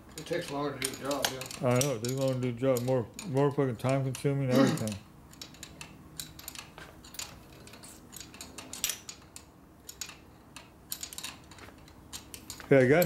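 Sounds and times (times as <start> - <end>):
wrenches clicking on metal: 0.1 - 13.0.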